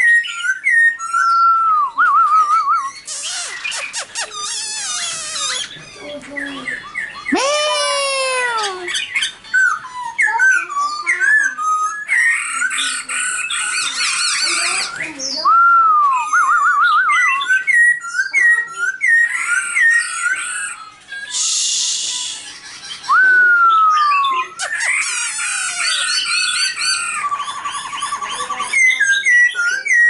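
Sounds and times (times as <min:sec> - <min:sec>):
bird singing loud whistles: 0:00.0 - 0:05.8, 0:06.7 - 0:30.0.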